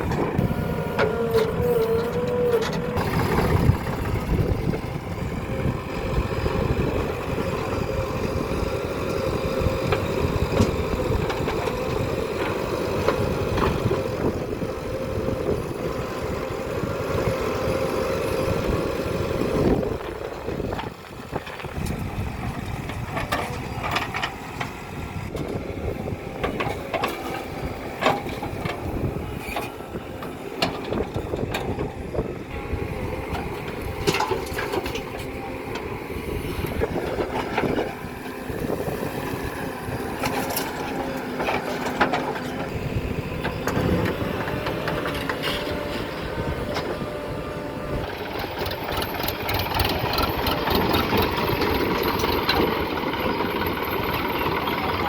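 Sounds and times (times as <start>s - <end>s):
loader diesel engine running: 0.0s - 55.0s.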